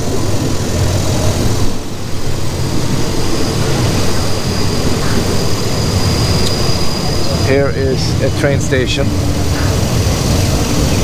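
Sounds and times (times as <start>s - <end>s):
diesel train rumble: 0.0s - 11.0s
high steady whine: 0.0s - 11.0s.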